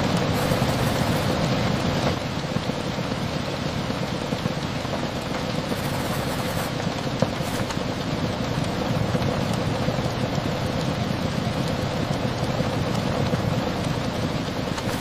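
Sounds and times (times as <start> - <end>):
rain tapping on a window: 0.0 - 15.0.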